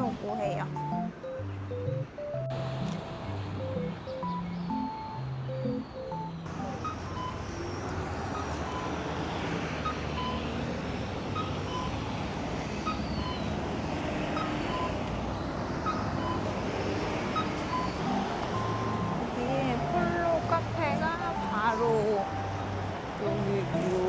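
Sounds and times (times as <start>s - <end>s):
city traffic noise: 0.0s - 24.0s.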